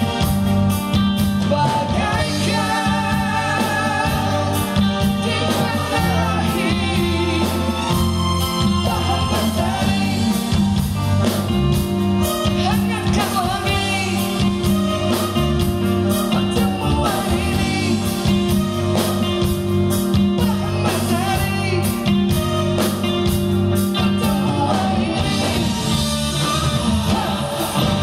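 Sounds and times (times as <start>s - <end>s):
electric guitar: 0.0s - 28.0s
keyboard: 0.0s - 28.0s
steady drum beat: 0.0s - 28.0s.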